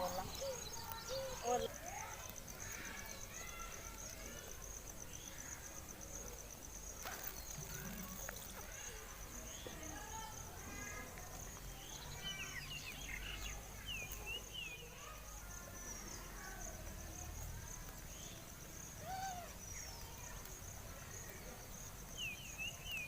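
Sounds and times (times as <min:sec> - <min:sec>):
birds chirping: 0:00.0 - 0:06.3, 0:06.9 - 0:16.8, 0:17.8 - 0:23.0
insects chirring: 0:00.0 - 0:23.0.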